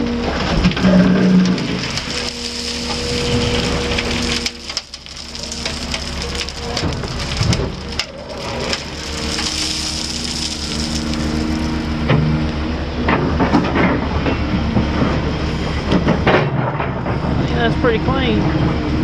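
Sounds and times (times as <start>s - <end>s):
gravel sliding down truck bed: 0.0s - 18.3s
excavator bucket scraping: 0.0s - 18.8s
engine drone: 0.0s - 19.0s.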